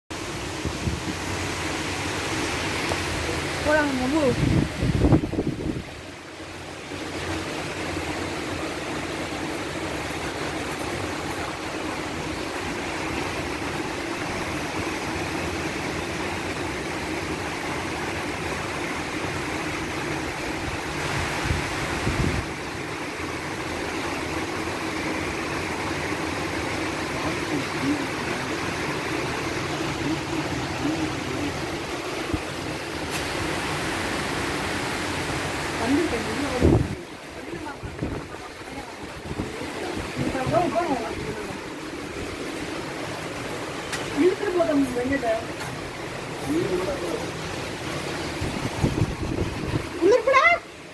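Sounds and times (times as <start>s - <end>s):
heavy rain pouring: 0.1s - 50.9s.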